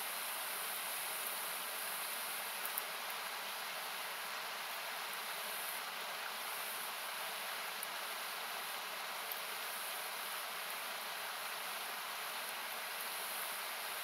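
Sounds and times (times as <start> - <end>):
campfire crackles: 0.2 - 14.0.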